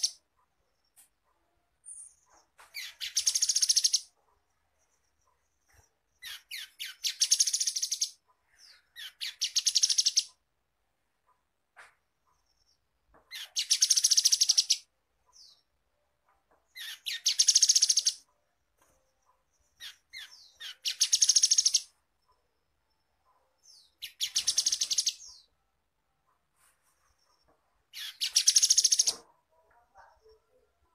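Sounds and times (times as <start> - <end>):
bird chirps: 0.0 - 10.5, 11.2 - 25.7, 26.3 - 30.9.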